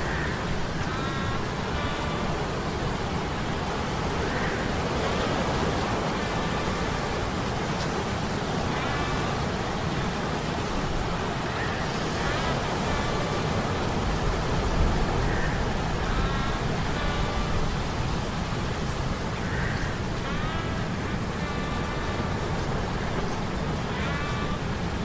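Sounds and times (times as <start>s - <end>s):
rain: 0.0s - 25.0s
wind: 0.0s - 25.0s.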